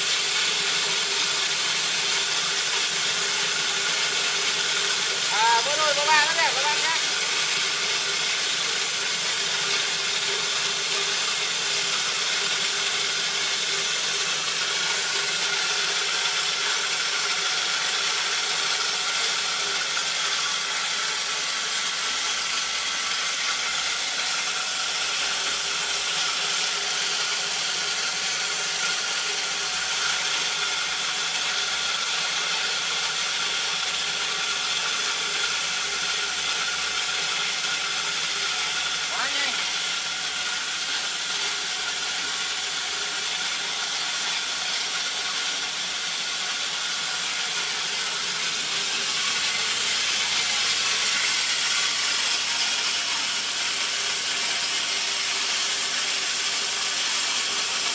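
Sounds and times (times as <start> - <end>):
electric mill grinding corn: 0.0 - 57.9.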